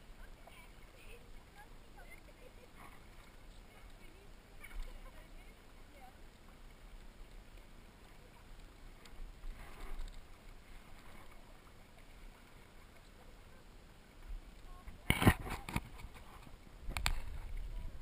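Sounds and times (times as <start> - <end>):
paddle strokes: 0.0 - 18.0
water lapping: 0.0 - 18.0.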